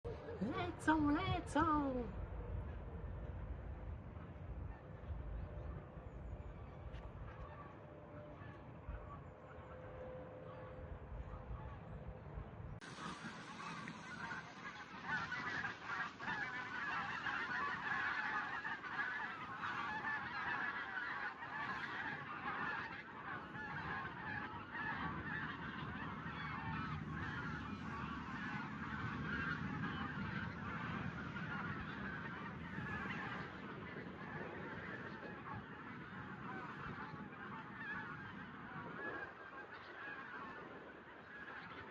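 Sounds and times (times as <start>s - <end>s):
geese honking: 6.4s - 11.9s, 12.8s - 41.9s.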